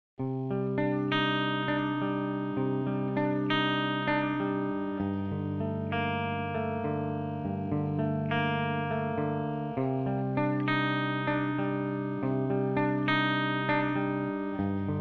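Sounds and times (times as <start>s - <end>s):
clean guitar picking single notes: 0.2s - 15.0s.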